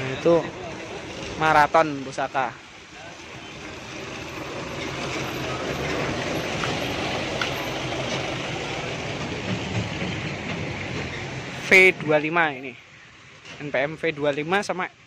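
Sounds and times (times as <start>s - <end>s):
bus driving past: 0.0s - 13.6s.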